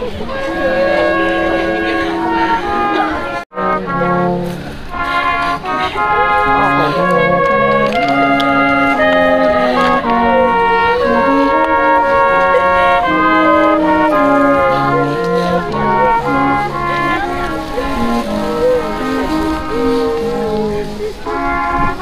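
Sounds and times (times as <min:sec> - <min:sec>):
brass chords: 0:00.0 - 0:22.0.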